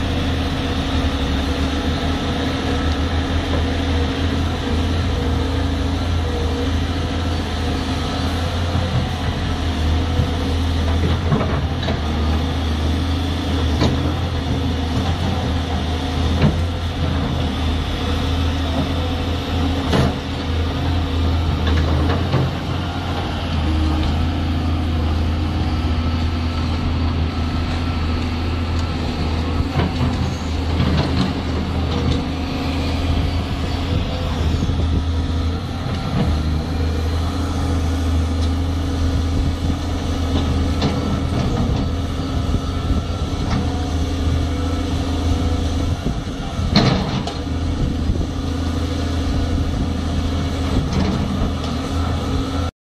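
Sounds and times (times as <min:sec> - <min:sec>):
excavator diesel engine hum: 0:00.0 - 0:52.7.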